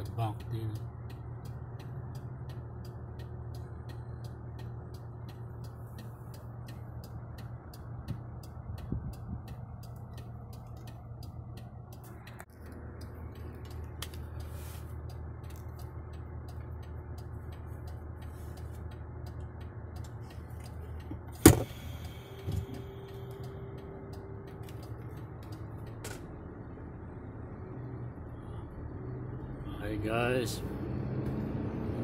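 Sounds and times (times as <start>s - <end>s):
road noise: 0.0s - 32.0s
truck engine drone: 0.0s - 32.0s.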